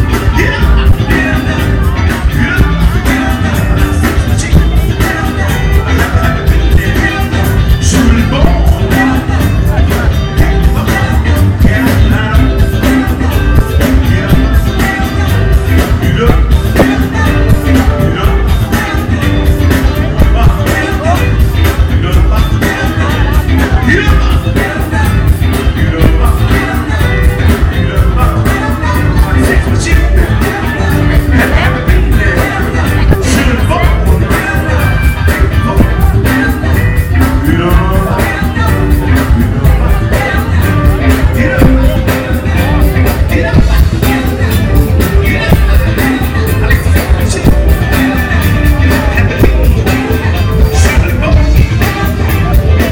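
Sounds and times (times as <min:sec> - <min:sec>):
bass: 0:00.0 - 0:52.9
drums: 0:00.0 - 0:52.9
funk band playing: 0:00.0 - 0:52.9
person singing: 0:00.0 - 0:52.9.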